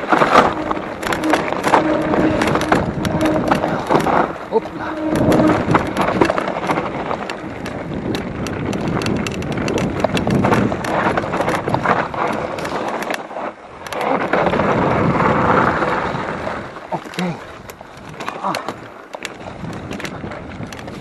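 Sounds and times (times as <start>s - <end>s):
mountain bike rattling over rough ground: 0.0s - 21.0s
wind buffeting microphone: 0.0s - 21.0s.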